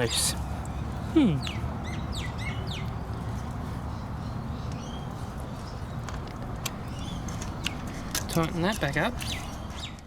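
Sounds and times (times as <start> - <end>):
birds chirping faintly: 0.0 - 10.0.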